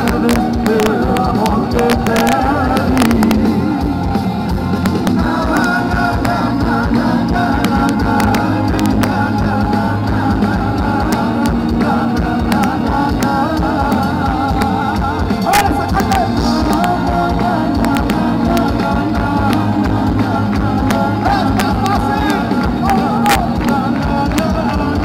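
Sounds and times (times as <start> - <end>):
person singing: 0.0 - 4.2, 4.9 - 25.0
live rock band through pa: 0.0 - 25.0.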